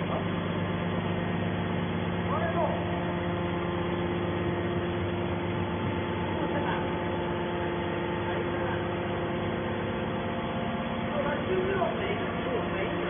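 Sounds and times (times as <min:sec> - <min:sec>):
hydraulic machine humming: 0:00.0 - 0:13.0.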